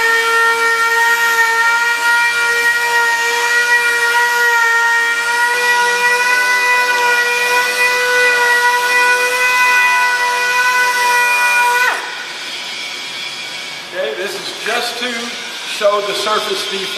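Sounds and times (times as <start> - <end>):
orbital sander whining: 0.0 - 16.9.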